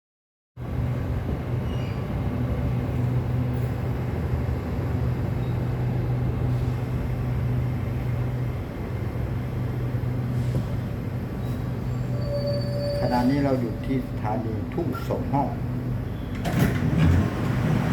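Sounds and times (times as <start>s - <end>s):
train carriage low hum: 0.6s - 17.9s
train carriage rumble: 0.6s - 17.9s.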